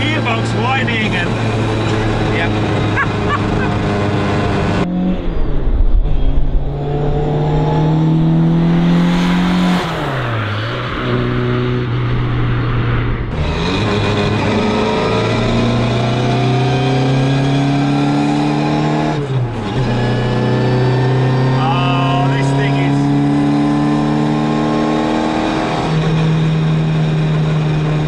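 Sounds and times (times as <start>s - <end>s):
car engine revving hard: 0.0s - 5.2s, 6.7s - 28.0s.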